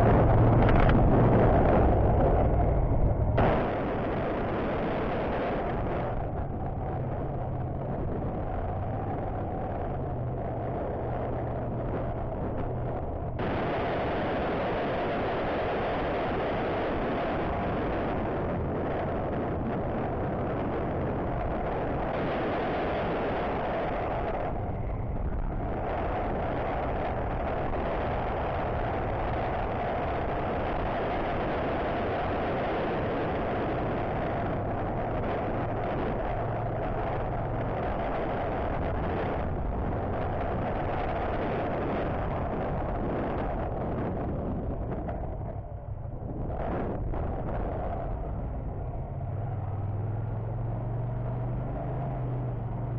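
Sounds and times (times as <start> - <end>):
wind rushing on microphone: 0.0 - 52.9.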